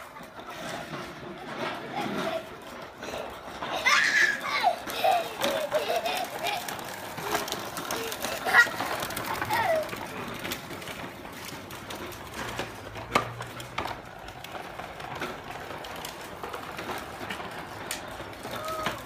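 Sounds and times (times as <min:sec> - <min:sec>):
plastic wheels rattling on paving: 0:00.0 - 0:19.0.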